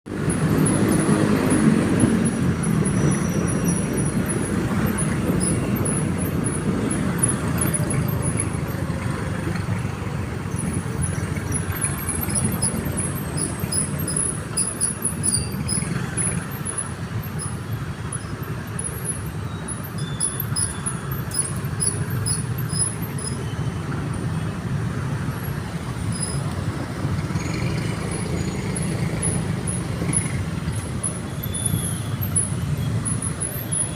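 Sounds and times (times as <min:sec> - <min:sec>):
passing cars rumbling: 0:00.1 - 0:33.9.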